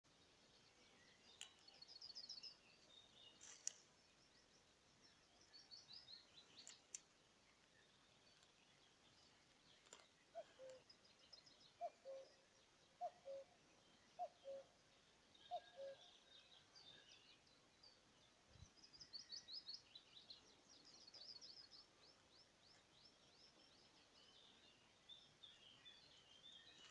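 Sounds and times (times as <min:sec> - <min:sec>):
songbirds trilling: 0:00.1 - 0:26.9.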